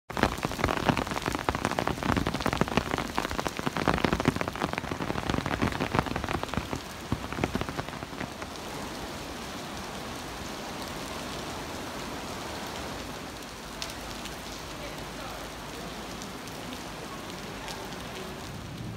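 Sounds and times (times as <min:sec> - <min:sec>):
heavy rain on stone paving: 0:00.1 - 0:18.9.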